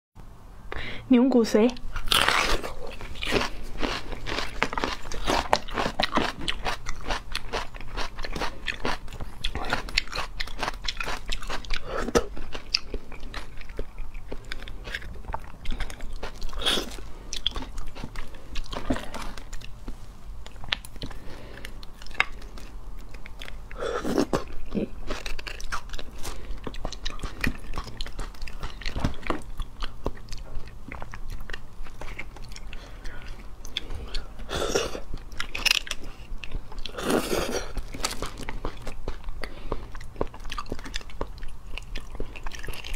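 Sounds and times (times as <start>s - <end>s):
wet chewing and biting: 1.8s - 42.9s.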